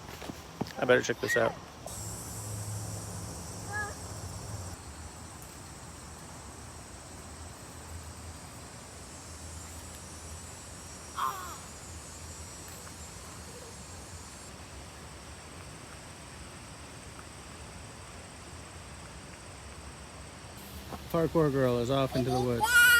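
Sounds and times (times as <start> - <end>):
crickets chirring: 0.0 - 22.9.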